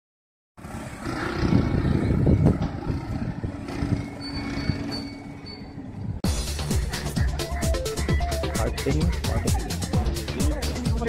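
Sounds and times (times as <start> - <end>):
vehicle engine rumbling: 0.6 - 11.0.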